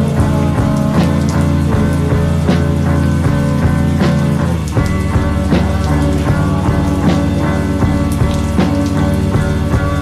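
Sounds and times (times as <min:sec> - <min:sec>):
falling rain: 0:00.0 - 0:10.0
music with chords and beat: 0:00.0 - 0:10.0.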